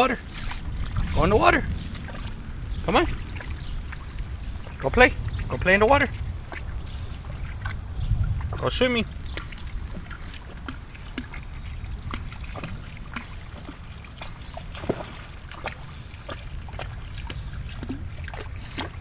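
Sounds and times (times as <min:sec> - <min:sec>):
steady low rumble: 0:00.0 - 0:19.0
water sloshing and splashing: 0:00.0 - 0:19.0.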